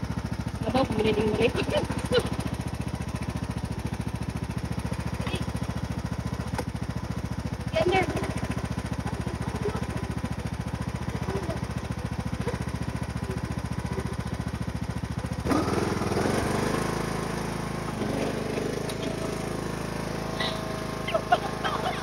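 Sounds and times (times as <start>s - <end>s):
lawn tractor engine running: 0.0s - 22.0s.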